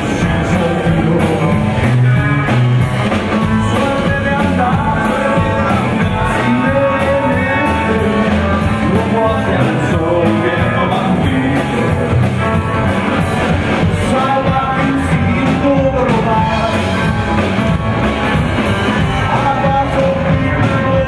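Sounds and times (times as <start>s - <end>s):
person singing: 0.0s - 18.2s, 18.9s - 21.0s
drum kit: 0.0s - 21.0s
electric guitar: 0.0s - 21.0s
upright bass: 0.0s - 21.0s.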